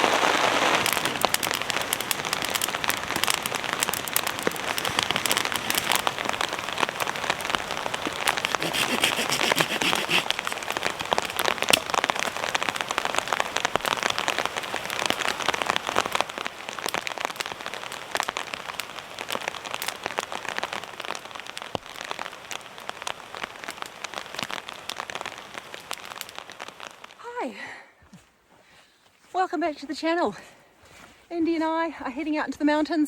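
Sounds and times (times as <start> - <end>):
heavy rain on fabric: 0.0 - 32.5.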